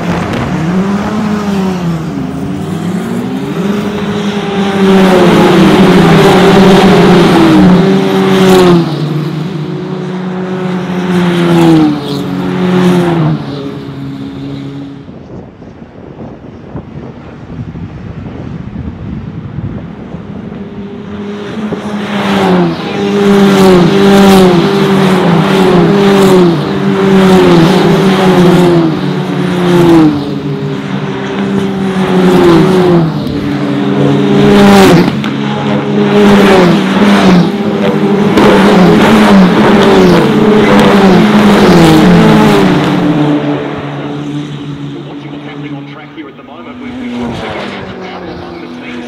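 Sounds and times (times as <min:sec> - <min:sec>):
race cars racing past: 0:00.0 - 0:49.0.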